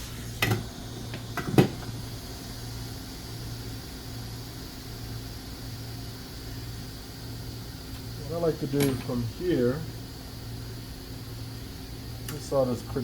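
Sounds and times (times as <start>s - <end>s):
fan hiss: 0.0s - 13.0s.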